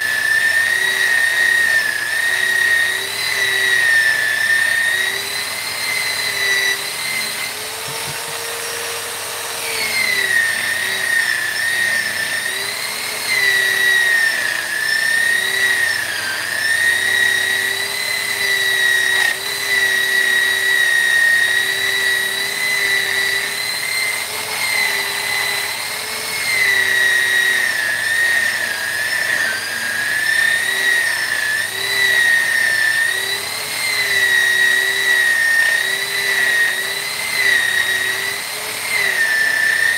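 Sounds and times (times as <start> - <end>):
rotary tool whining on wood: 0.0 - 39.9.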